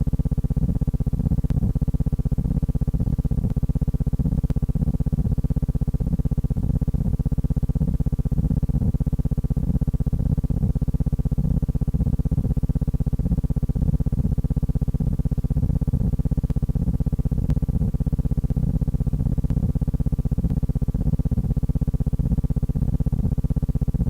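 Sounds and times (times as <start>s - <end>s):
low buzzing hum: 0.0s - 24.0s.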